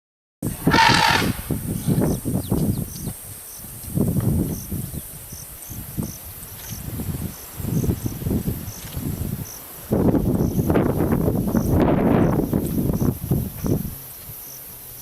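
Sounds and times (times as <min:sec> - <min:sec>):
insect chirping: 0:00.4 - 0:15.0.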